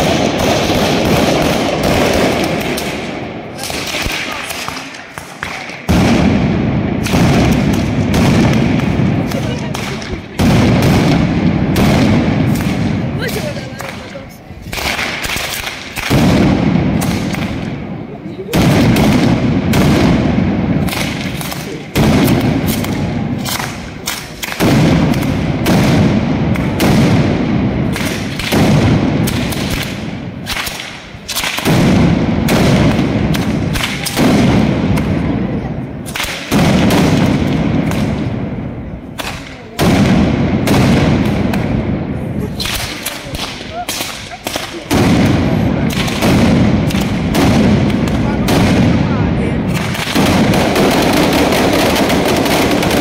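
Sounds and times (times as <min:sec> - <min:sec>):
firecracker bangs echoing: 0:00.0 - 0:53.0
firecracker crackling: 0:00.0 - 0:53.0.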